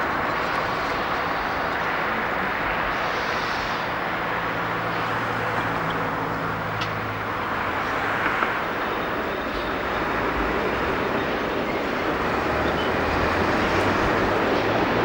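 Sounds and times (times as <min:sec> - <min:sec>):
low engine hum: 0:00.0 - 0:15.0
train droning: 0:00.0 - 0:15.0.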